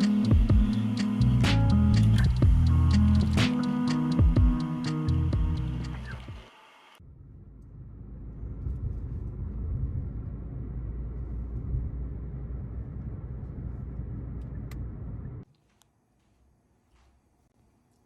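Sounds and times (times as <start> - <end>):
steady low rumble: 0.0 - 6.4, 7.0 - 15.4.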